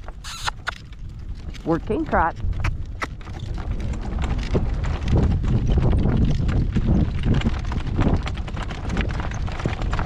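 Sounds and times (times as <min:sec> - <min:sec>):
horse hooves trotting: 0:00.0 - 0:10.0
wind buffeting microphone: 0:00.0 - 0:10.0.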